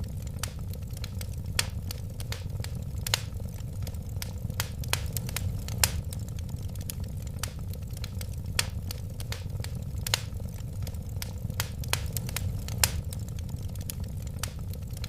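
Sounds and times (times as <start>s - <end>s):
fire crackles and pops: 0.0s - 15.0s
wood fire burning: 0.0s - 15.0s.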